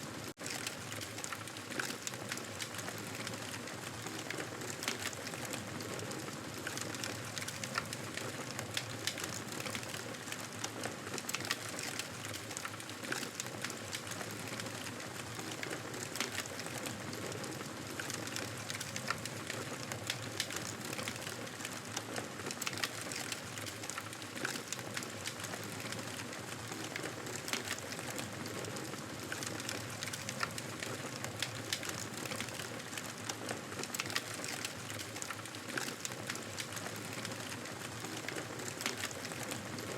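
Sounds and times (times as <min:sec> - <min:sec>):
campfire crackling: 0:00.5 - 0:39.8.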